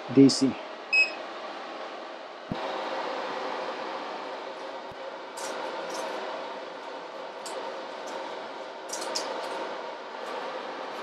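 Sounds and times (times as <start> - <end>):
welder cooling fan whirring: 0.0 - 11.0.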